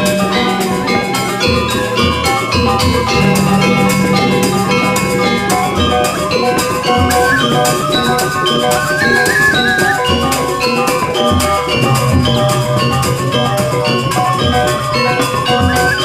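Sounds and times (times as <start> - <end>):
drums in a fast beat: 0.0 - 16.0
metallophones ringing: 0.0 - 16.0.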